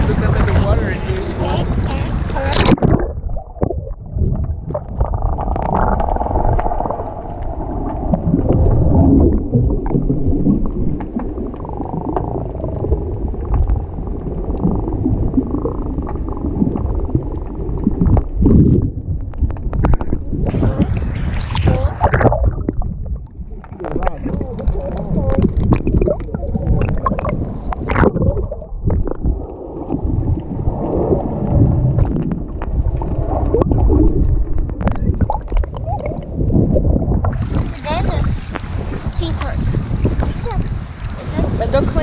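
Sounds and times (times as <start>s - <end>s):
underwater rumble and gurgling: 0.0s - 42.0s
water splashing and sloshing: 0.0s - 42.0s.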